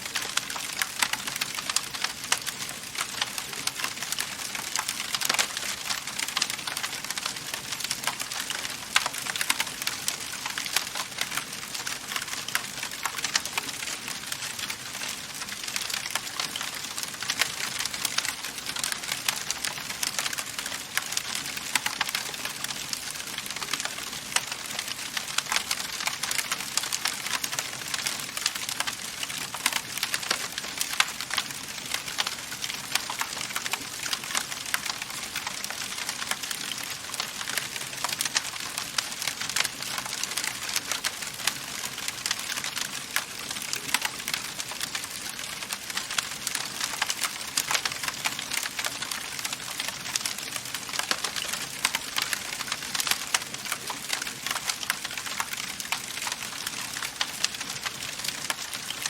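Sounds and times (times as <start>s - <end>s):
fire popping and snapping: 0.0s - 59.0s
wood fire crackling: 0.0s - 59.0s.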